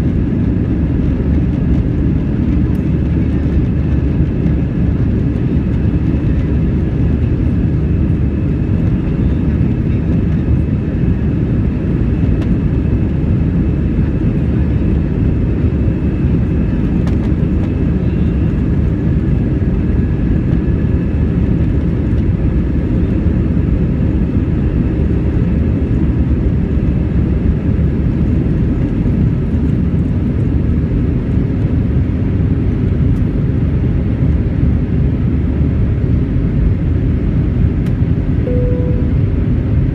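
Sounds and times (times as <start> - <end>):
faint jet engine whine: 0.0 - 39.9.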